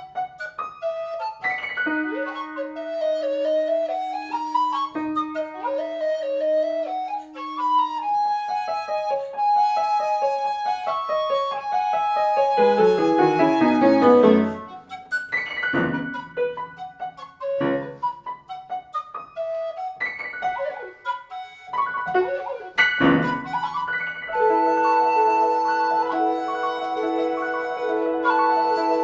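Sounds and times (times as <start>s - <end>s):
flute and piano chamber piece: 0.0s - 29.0s.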